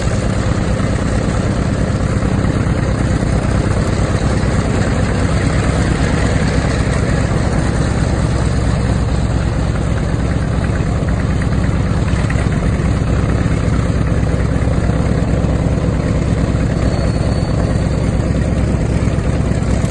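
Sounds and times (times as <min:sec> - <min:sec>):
radial aircraft engine idling: 0:00.0 - 0:19.9.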